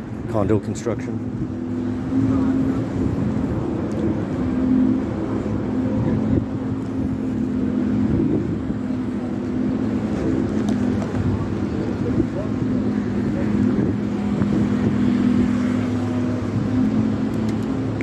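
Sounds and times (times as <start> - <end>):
engine drone: 0.0 - 18.0.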